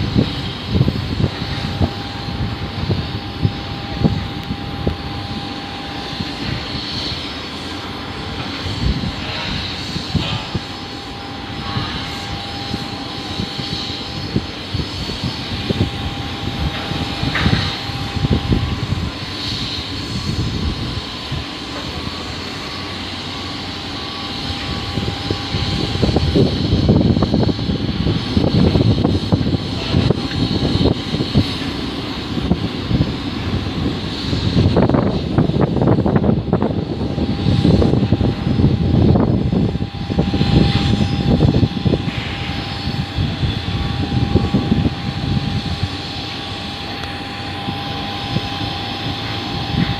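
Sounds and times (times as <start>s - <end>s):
aircraft engines running: 0.0s - 49.9s
thin high whine: 0.0s - 49.9s.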